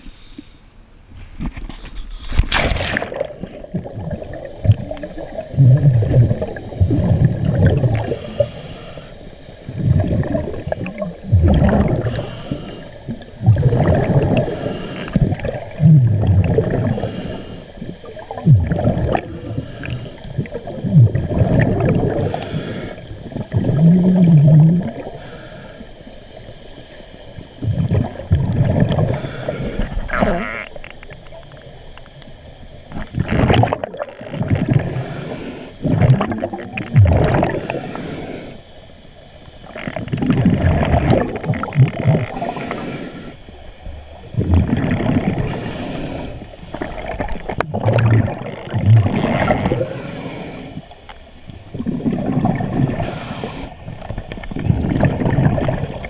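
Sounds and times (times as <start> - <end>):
exhaled bubbles gurgling underwater: 2.4 - 56.0.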